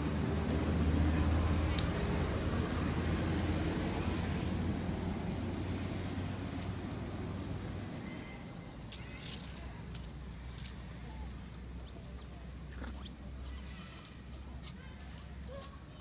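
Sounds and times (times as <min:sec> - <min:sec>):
engine droning: 0:00.0 - 0:13.5.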